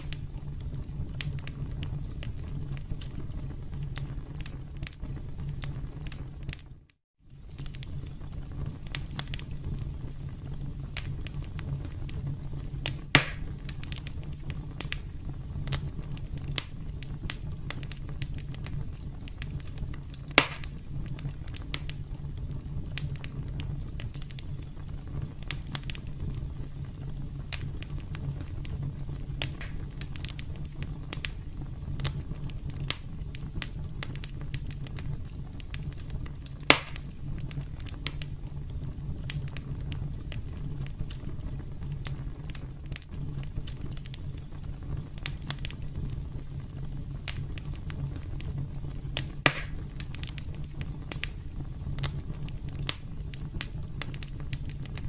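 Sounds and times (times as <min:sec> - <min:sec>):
loud sharp fire pops: 0:00.0 - 0:06.7, 0:07.4 - 0:55.0
campfire crackling: 0:00.0 - 0:55.0.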